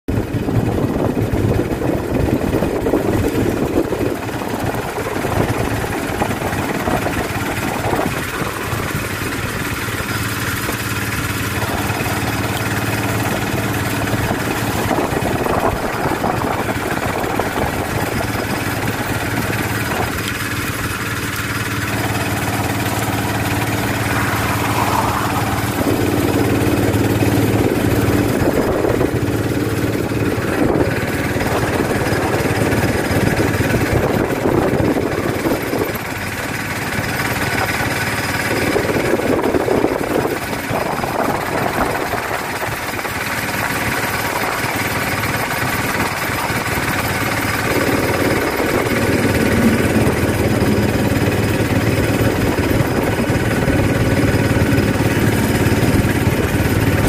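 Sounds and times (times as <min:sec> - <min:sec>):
auto-rickshaw engine droning: 0:00.1 - 0:57.0.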